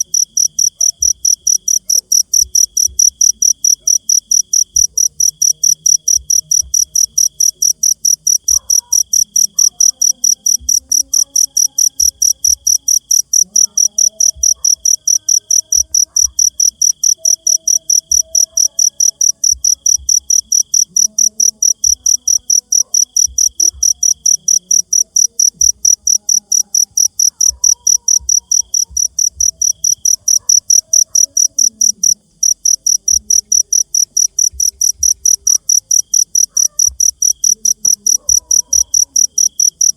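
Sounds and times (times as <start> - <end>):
cricket chirping: 0.0 - 39.9
low insect trill: 0.0 - 39.9.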